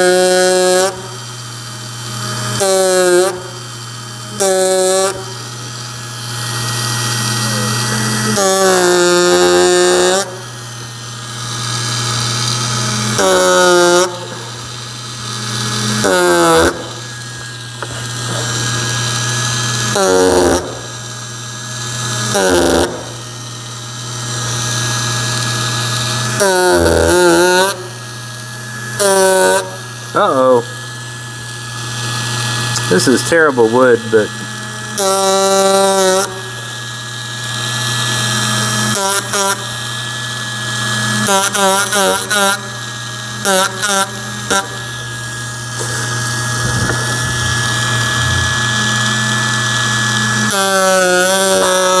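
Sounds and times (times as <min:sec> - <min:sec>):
power carver cutting wood: 0:00.0 - 0:52.0.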